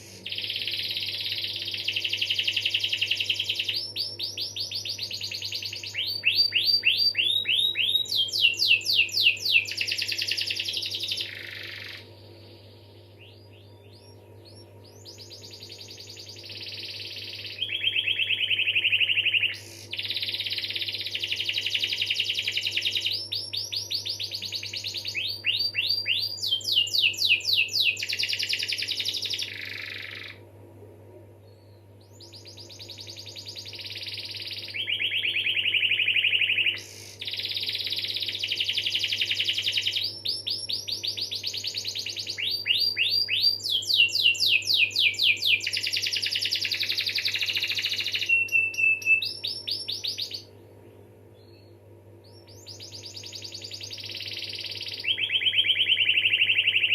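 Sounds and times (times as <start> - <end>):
canary singing trills: 0.0 - 30.4, 31.4 - 50.5, 51.3 - 56.9.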